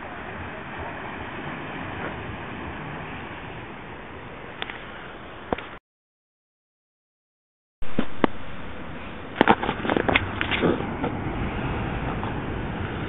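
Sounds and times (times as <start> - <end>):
sea surf on rocky shore: 0.0 - 5.8, 7.8 - 13.0.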